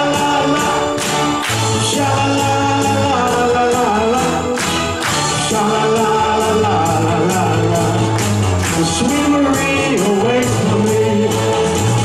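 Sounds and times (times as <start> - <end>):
man singing into microphone: 0.0 - 12.0
upbeat show music: 0.0 - 12.0.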